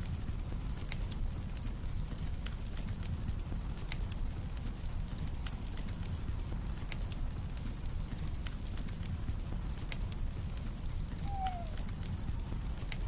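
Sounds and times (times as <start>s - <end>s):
campfire crackling: 0.0s - 13.0s
cricket chirping: 0.0s - 13.0s.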